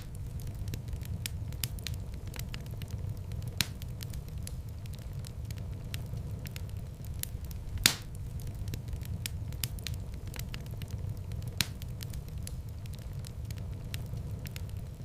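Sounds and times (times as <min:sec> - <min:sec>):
loud pops of fire: 0:00.0 - 0:15.0
low rumble of flames: 0:00.0 - 0:15.0
wood fire crackling: 0:00.0 - 0:15.0.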